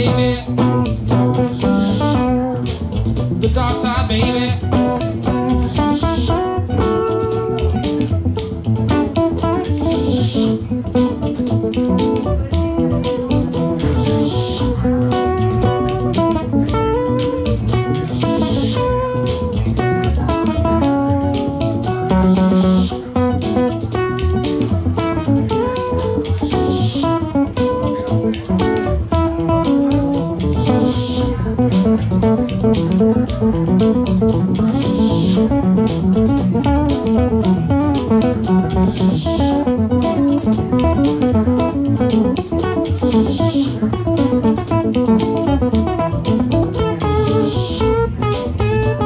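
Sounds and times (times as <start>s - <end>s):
bass: 0.0s - 49.0s
electric guitar line: 0.0s - 49.0s
steady drum beat: 0.0s - 49.0s.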